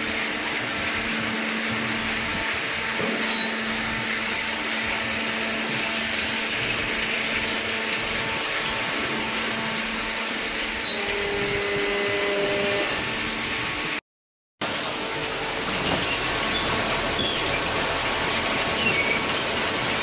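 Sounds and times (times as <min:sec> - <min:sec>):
baler motors humming and whirring: 0:00.0 - 0:14.0, 0:14.6 - 0:20.0.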